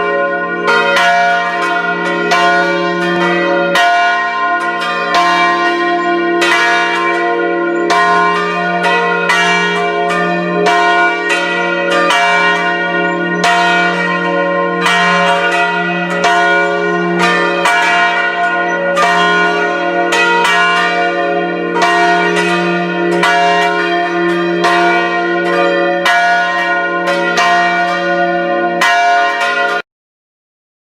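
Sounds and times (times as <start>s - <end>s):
church bells pealing: 0.0s - 29.8s.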